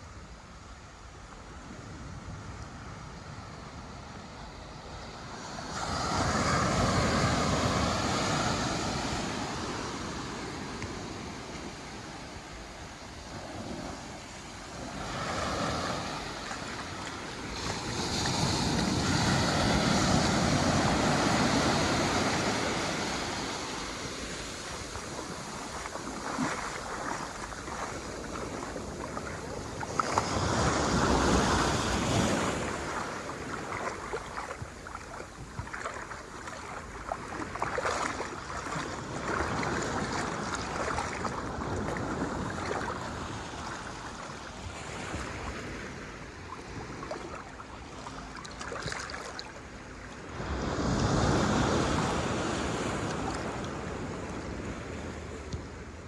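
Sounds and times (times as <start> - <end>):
ocean waves washing over sand: 0.0 - 56.0.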